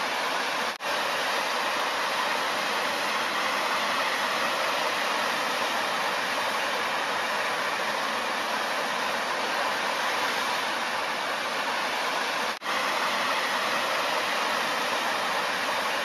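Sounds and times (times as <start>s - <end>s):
fountain water rushing: 0.0s - 16.0s.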